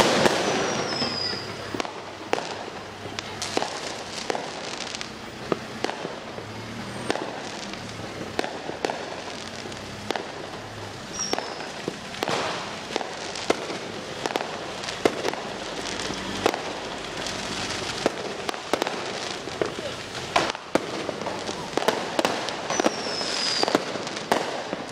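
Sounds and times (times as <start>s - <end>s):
distant crackle hiss: 0.0s - 24.9s
firework bangs and cracks: 0.0s - 24.9s.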